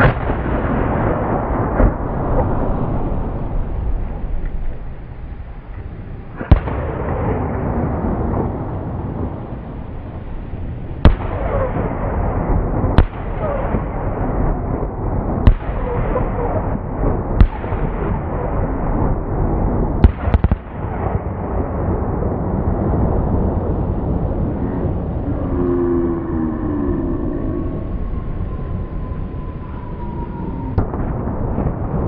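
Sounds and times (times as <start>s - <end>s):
fireworks bangs: 0.0s - 25.3s, 27.8s - 32.0s
continuous rushing noise: 0.0s - 32.0s.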